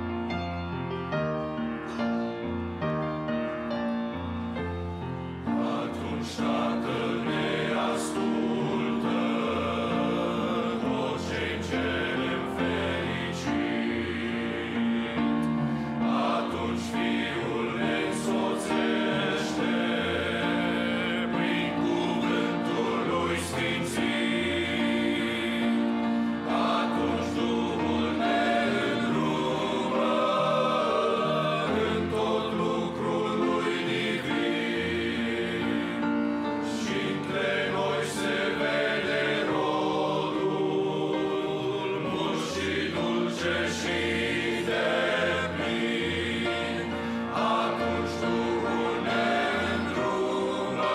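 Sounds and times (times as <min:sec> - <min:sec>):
male choir singing a hymn: 0:04.1 - 0:50.9.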